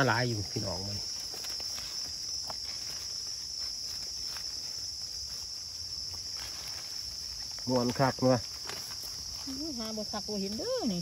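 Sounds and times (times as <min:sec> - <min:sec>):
insects droning: 0:00.0 - 0:11.0
faint clicks in leaf litter: 0:01.1 - 0:10.9.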